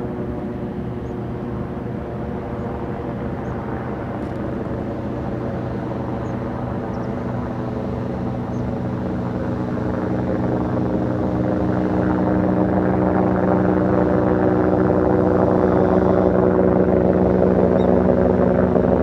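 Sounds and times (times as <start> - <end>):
engine drone: 0.0 - 19.0.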